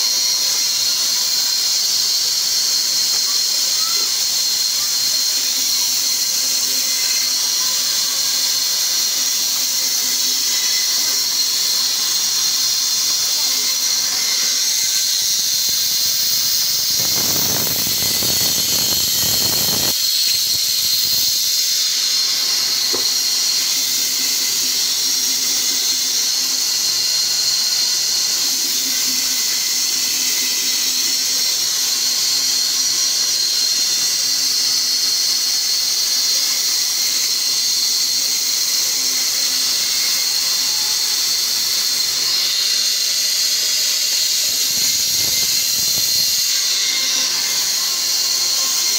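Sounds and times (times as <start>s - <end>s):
band saw whining: 0.0s - 48.9s.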